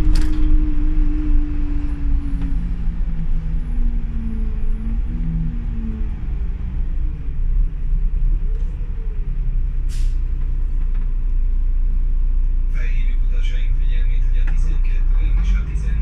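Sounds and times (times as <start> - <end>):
bus engine rumble: 0.0 - 16.0.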